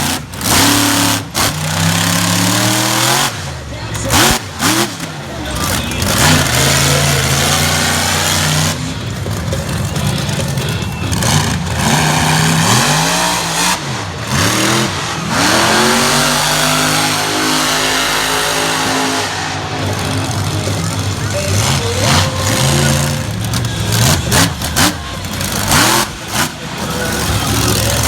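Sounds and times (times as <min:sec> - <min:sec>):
monster truck engine revving: 0:00.0 - 0:28.0.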